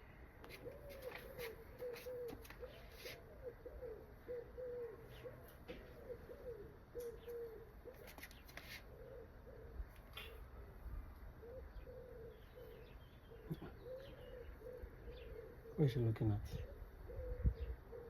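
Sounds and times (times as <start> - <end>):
birds cooing softly: 0.0 - 18.0.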